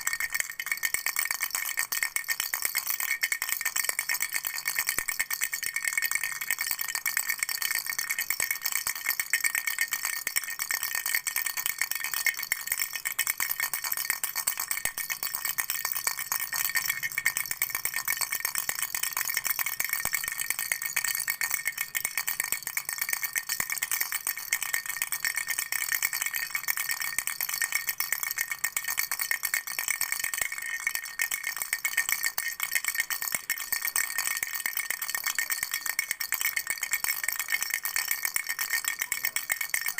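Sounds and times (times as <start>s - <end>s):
toy rattle shaken: 0.0s - 39.9s.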